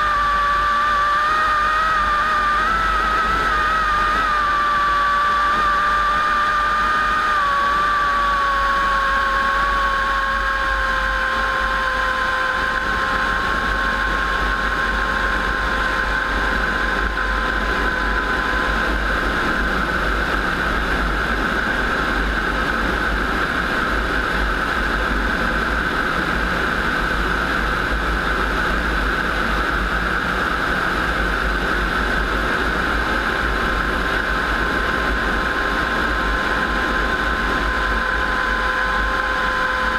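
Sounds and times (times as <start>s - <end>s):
piston aircraft engine running: 0.0s - 39.9s.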